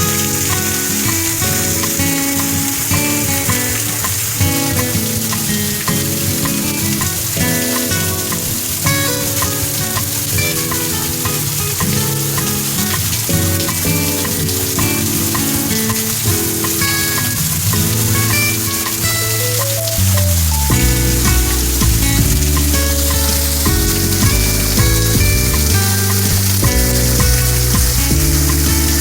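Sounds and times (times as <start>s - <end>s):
heavy rain: 0.0s - 29.0s
music playing: 0.0s - 29.0s.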